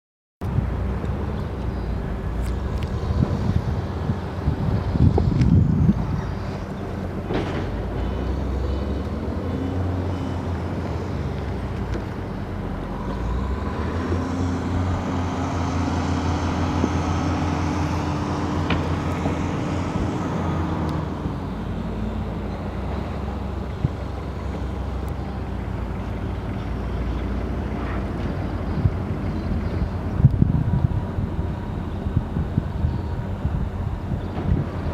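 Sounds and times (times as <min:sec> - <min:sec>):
boat engines idling: 0:00.4 - 0:34.9.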